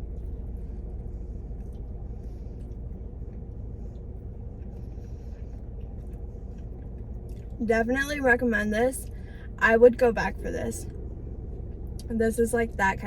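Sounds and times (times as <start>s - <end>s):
car interior rumble: 0.0s - 13.0s
faint steady hum: 0.0s - 13.0s.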